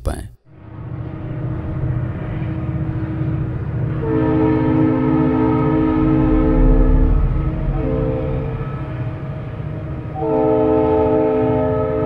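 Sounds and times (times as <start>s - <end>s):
train horn blasts: 1.8s - 12.0s.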